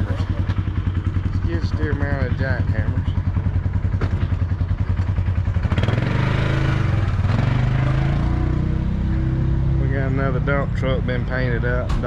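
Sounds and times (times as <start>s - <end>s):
engine chugging and humming: 0.0s - 12.0s.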